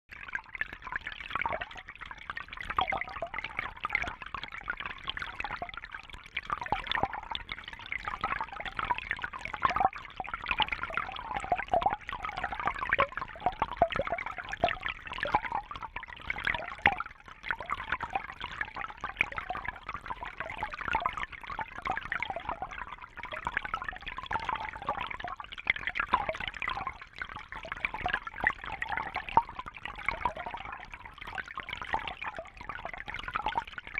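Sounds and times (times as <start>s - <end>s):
water fountain trickling: 0.1s - 33.9s.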